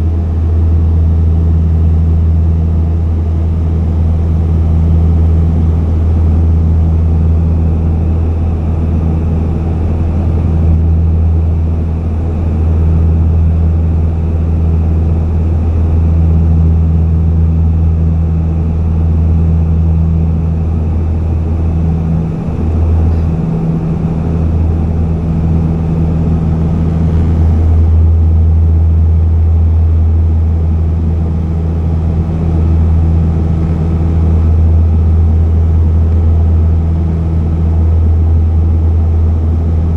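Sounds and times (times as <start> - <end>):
propeller plane cabin drone: 0.0 - 39.9.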